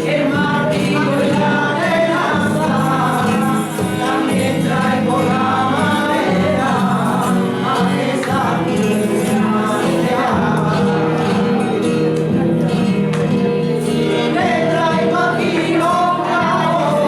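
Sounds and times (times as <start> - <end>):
voices singing a carol: 0.0 - 17.0.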